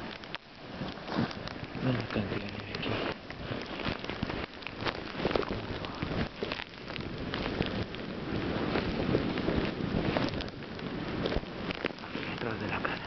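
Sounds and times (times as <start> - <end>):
footsteps crunching through snow: 0.7 - 13.0.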